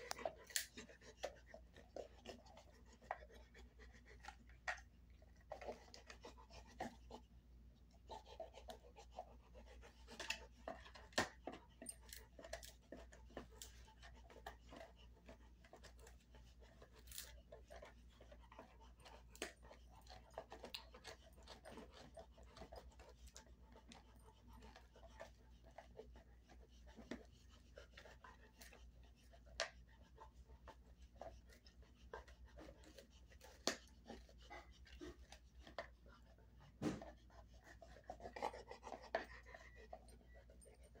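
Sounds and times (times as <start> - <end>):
dog gnawing a hard chew: 0.0 - 7.3, 7.9 - 41.0.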